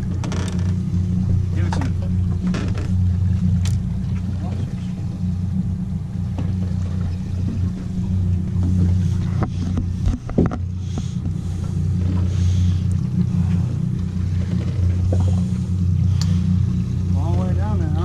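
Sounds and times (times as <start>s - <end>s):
outboard motors idling: 0.0s - 18.0s.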